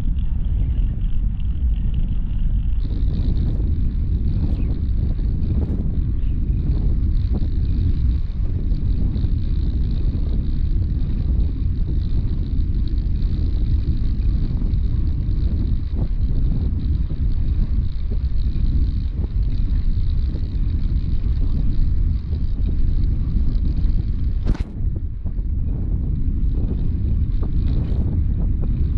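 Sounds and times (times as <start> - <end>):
bicycle tyres on brick paving: 0.0 - 28.9
wind buffeting microphone: 0.0 - 28.9.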